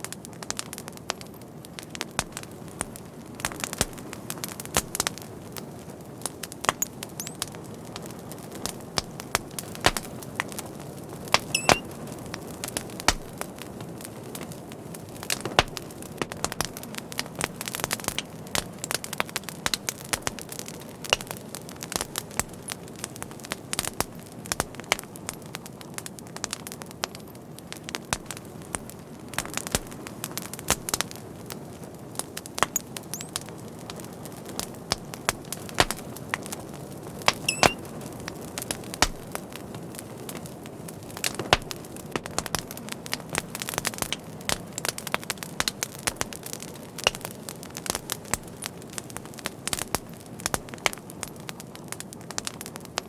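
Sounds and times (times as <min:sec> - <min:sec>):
fire crackling and popping: 0:00.0 - 0:53.0
hiss of flames: 0:01.8 - 0:53.0.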